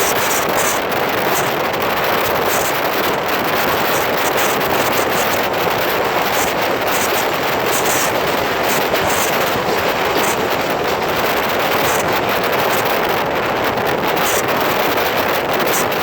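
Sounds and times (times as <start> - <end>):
train wheels roaring on rails: 0.0 - 16.0.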